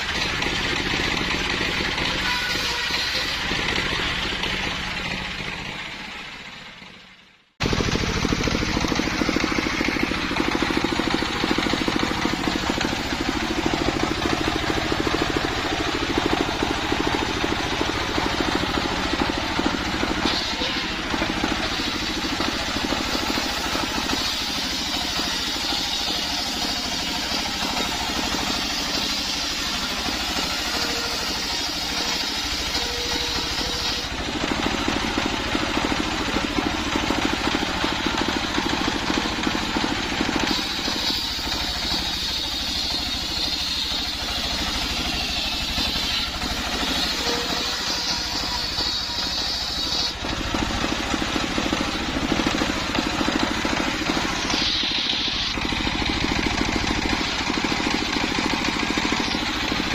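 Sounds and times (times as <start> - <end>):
saw blade cutting log: 0.0 - 6.0, 7.6 - 59.9
circular saw bench running: 0.0 - 59.9.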